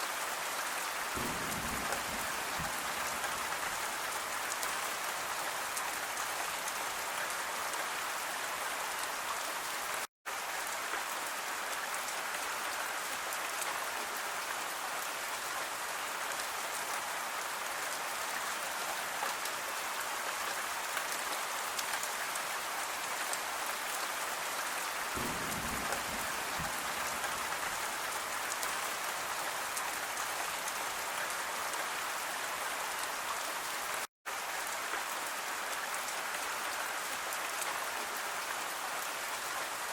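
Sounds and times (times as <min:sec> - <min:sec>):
rain pattering: 0:00.2 - 0:39.9.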